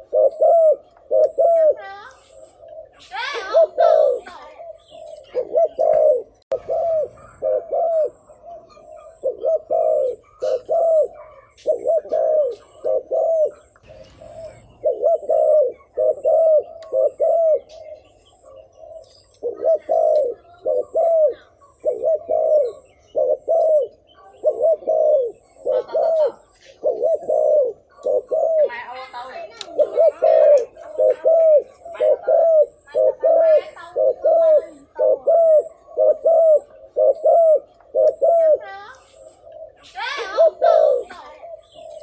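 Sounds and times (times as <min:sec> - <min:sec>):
dove cooing rapidly: 0:00.0 - 0:42.0.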